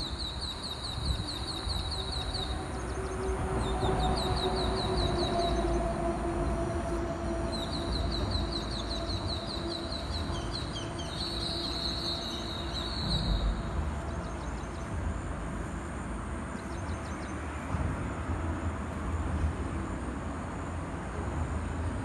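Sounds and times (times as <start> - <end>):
steady low rumble: 1.0 - 22.0.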